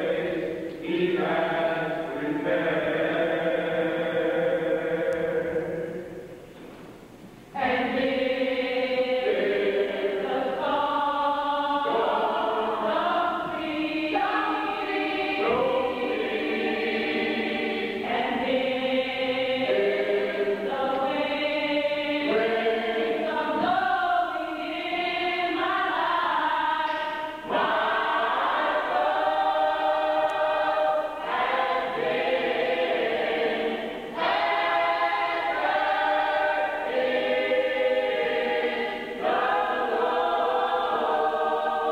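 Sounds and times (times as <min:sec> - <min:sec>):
church choir singing: 0:00.0 - 0:06.4, 0:07.5 - 0:41.9.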